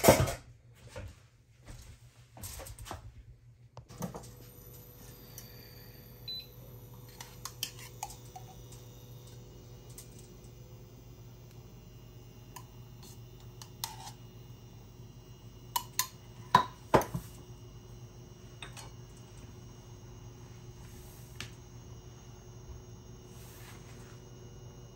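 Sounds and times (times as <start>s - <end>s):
steady low hum: 1.1s - 24.9s.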